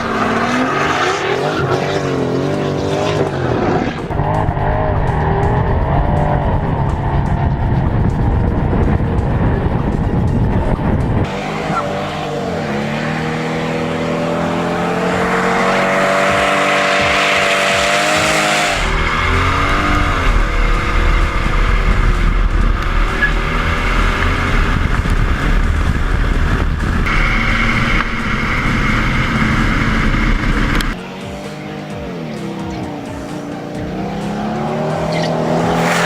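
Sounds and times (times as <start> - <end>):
car engine running hard: 0.0 - 36.0.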